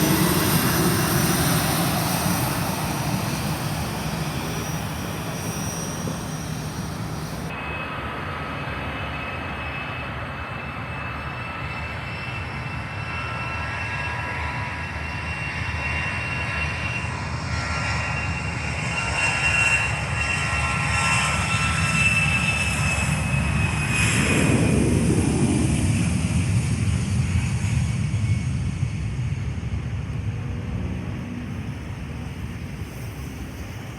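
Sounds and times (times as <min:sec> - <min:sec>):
airliner engines passing: 0:00.0 - 0:33.9.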